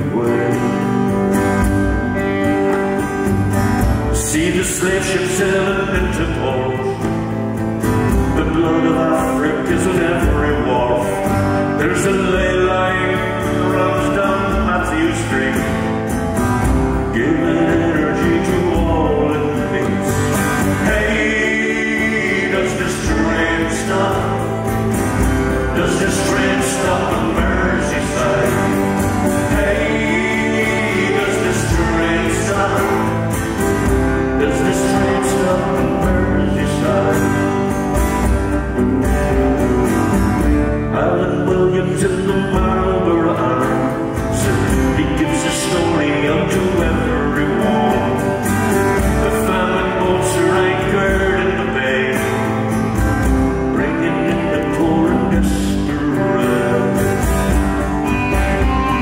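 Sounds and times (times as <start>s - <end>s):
man singing: 0.0s - 3.3s, 4.0s - 39.4s, 40.7s - 59.0s
acoustic guitar strumming: 0.0s - 59.0s.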